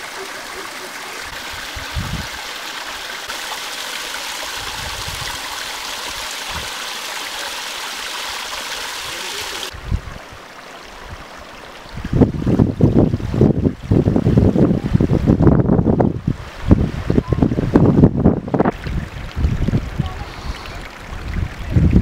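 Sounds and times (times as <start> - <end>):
water splashing over rocks: 0.0 - 14.8, 18.4 - 22.0.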